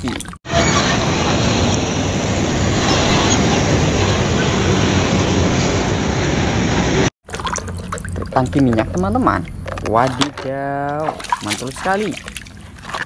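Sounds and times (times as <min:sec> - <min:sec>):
truck engine and road noise: 0:00.5 - 0:13.0.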